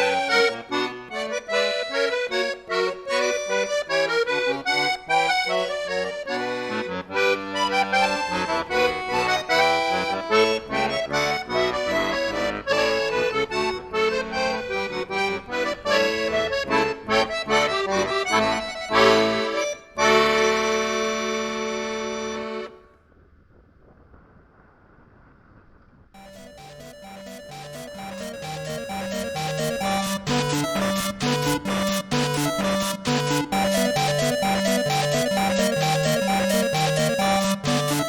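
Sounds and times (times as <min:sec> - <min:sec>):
accordion playing: 0:00.0 - 0:22.8, 0:26.2 - 0:38.0.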